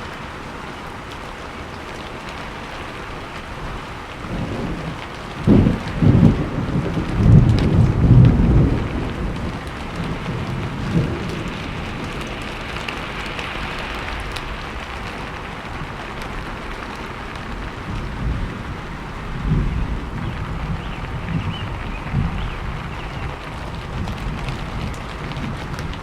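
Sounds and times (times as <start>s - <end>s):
steady rain falling: 0.0s - 26.0s
thunder rumbling: 3.4s - 26.0s.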